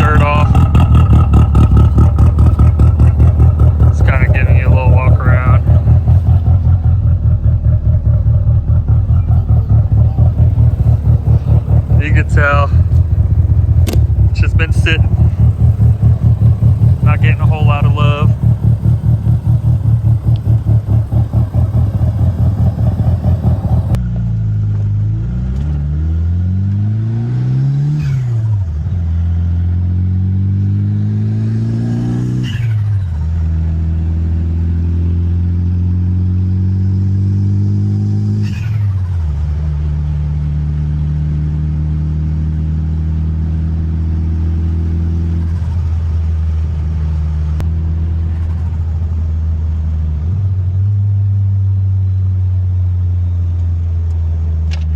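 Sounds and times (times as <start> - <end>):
car engine revving through gears: 0.0 - 24.0, 24.8 - 46.8.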